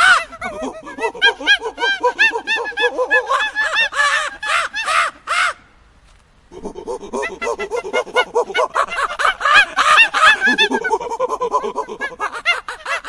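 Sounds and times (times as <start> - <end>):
monkeys chattering and screeching: 0.0 - 5.5, 6.5 - 13.0.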